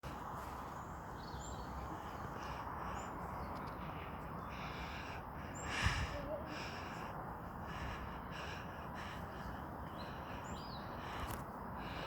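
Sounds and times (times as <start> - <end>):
birds cawing: 2.0 - 12.0.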